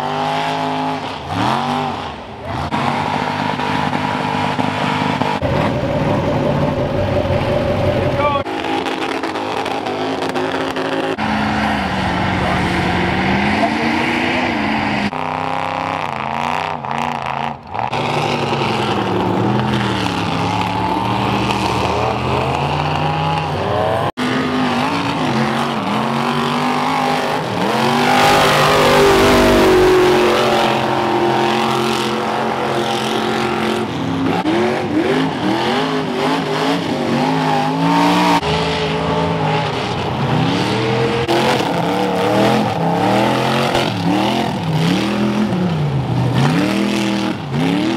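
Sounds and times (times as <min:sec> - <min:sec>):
tires churning and mud spraying: 0:00.0 - 0:47.9
truck engines revving: 0:00.0 - 0:47.9.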